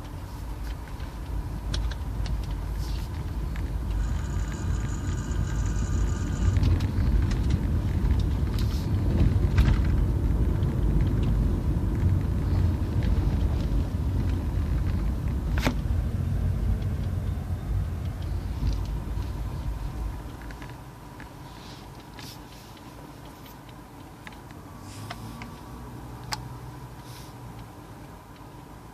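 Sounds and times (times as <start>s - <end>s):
car engine rumbling: 0.0s - 28.9s.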